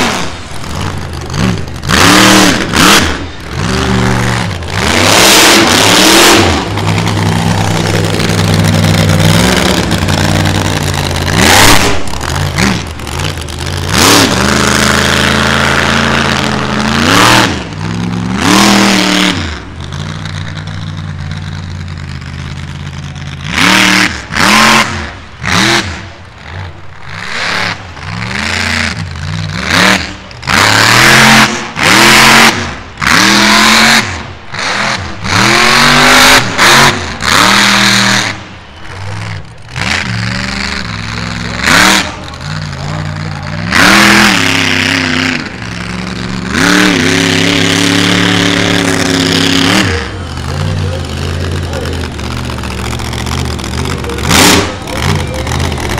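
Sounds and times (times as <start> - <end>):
monster truck engine revving: 0.0 - 55.9.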